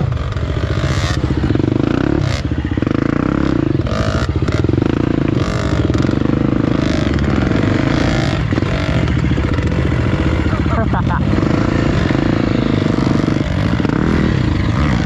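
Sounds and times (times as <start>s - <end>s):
clatter from rough ground: 0.0s - 15.0s
motorcycle engine revving: 0.0s - 15.0s.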